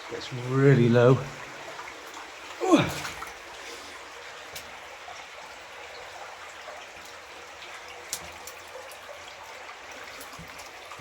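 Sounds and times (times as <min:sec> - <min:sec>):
faint water drips: 0:00.0 - 0:11.0
water trickling: 0:00.0 - 0:11.0.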